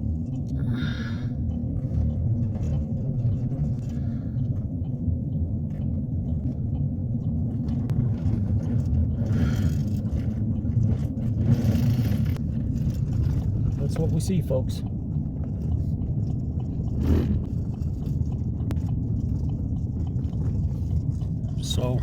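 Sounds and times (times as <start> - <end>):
truck engine and tyres rumbling: 0.0 - 22.0.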